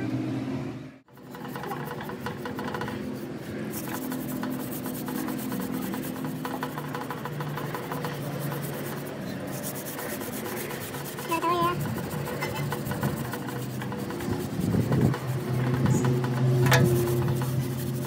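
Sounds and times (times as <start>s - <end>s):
rapid scraping strokes: 1.1s - 18.0s.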